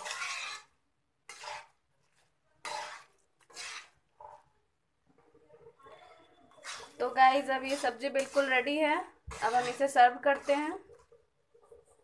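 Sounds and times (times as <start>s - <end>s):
metal spatula scraping metal pan: 0.0s - 4.6s, 5.6s - 11.1s.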